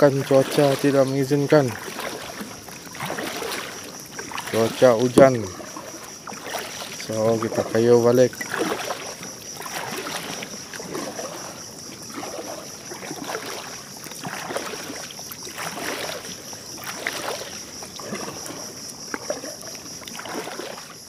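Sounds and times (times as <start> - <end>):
paddle strokes in water: 0.0 - 21.0
splashes and drips: 0.0 - 21.0.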